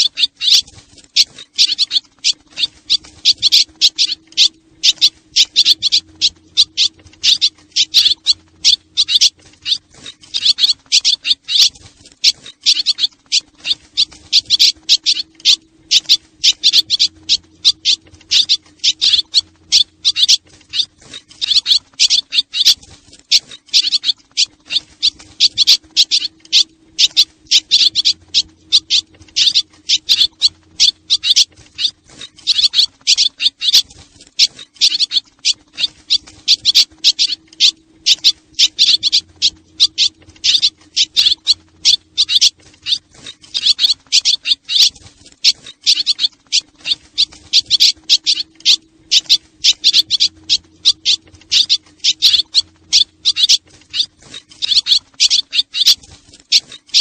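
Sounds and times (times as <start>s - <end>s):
faint steady low hum: 0.0s - 57.0s
swallows twittering: 0.0s - 57.0s.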